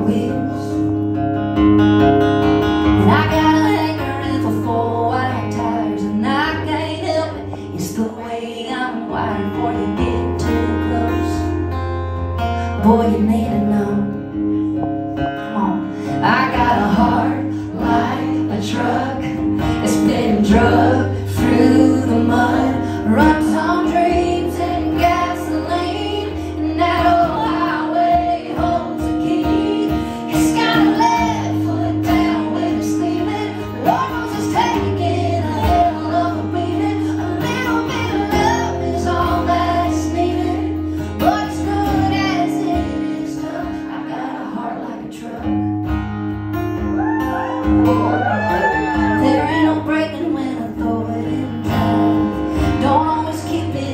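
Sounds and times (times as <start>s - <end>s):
woman singing into microphone: 0.0s - 1.0s, 2.8s - 11.8s, 12.6s - 46.0s, 47.2s - 53.9s
country band accompaniment: 0.0s - 53.9s.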